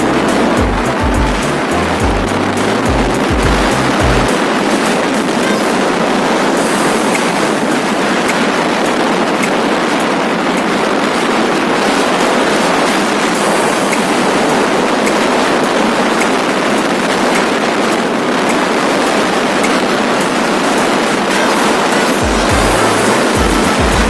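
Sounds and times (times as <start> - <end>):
motorcycle riding at speed: 0.0 - 24.0.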